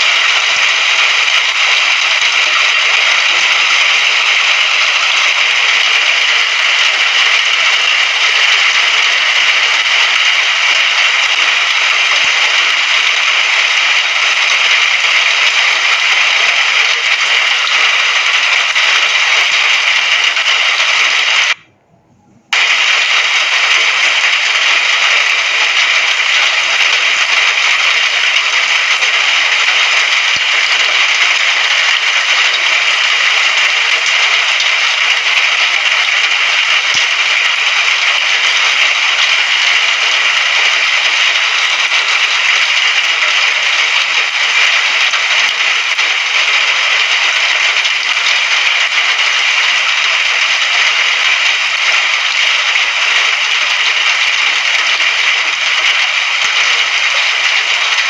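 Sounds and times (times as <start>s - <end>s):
heavy rain: 0.0s - 21.7s, 22.5s - 58.0s.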